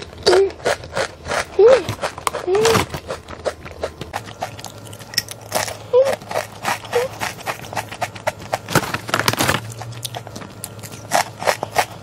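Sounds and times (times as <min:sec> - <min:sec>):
chip crunching while chewing: 0:00.0 - 0:12.0.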